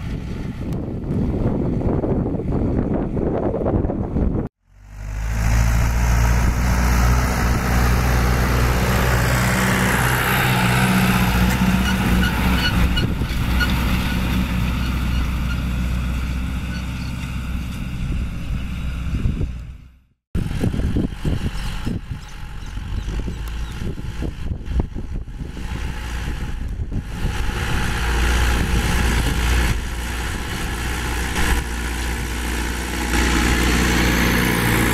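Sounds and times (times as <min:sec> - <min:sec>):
wind buffeting microphone: 0:00.0 - 0:04.5, 0:06.2 - 0:16.7, 0:17.3 - 0:34.9
tractor diesel engine under load: 0:00.0 - 0:34.9.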